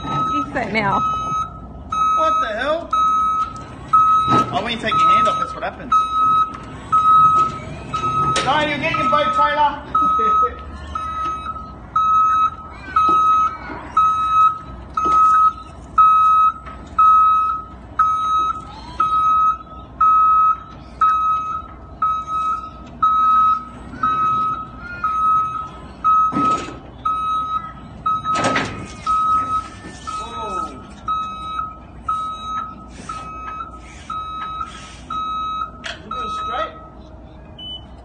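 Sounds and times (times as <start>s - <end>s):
reversing beeper: 0.0s - 37.0s.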